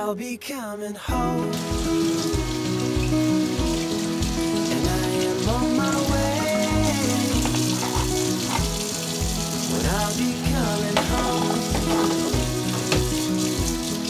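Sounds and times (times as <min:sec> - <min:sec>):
background music with beat: 0:01.1 - 0:14.0
tap water running into sink: 0:01.5 - 0:14.0.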